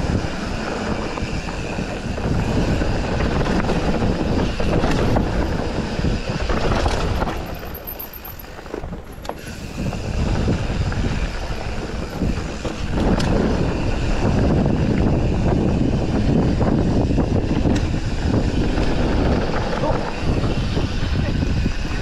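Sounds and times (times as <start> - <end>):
bike tyres on dirt: 0.0 - 22.0
wind rushing over microphone: 0.0 - 22.0.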